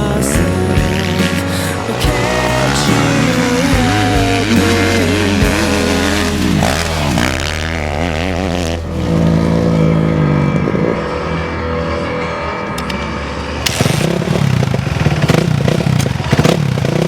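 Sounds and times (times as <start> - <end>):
background music: 0.0 - 15.0
motorcycle engines revving: 0.0 - 17.0.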